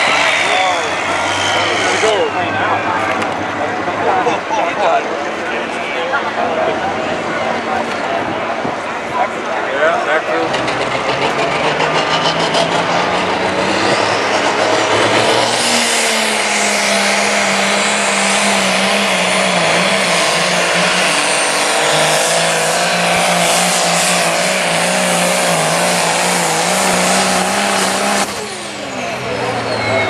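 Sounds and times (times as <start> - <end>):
tractor diesel engine at full throttle: 0.0 - 30.0.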